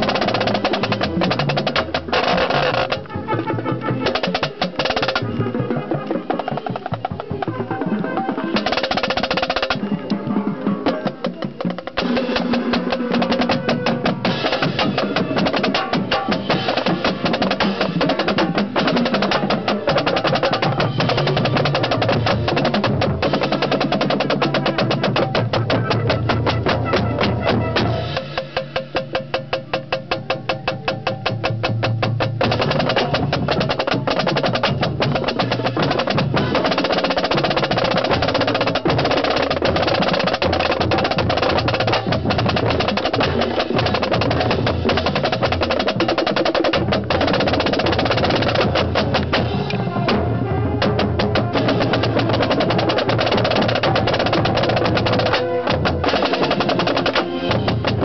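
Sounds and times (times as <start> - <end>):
marching snare drum rolls: 0.0 - 58.0.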